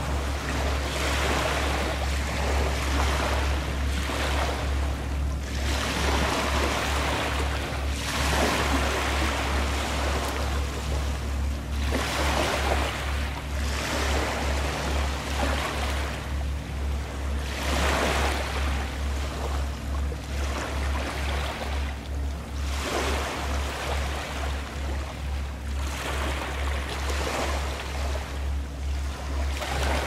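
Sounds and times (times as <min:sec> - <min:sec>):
low throbbing rumble: 0:00.0 - 0:30.0
sea waves washing in: 0:00.0 - 0:30.0.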